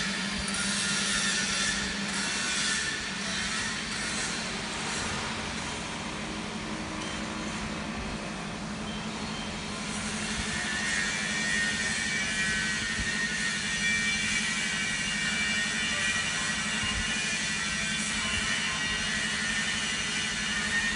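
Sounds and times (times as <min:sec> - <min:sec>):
high mechanical whine: 0:00.0 - 0:20.9.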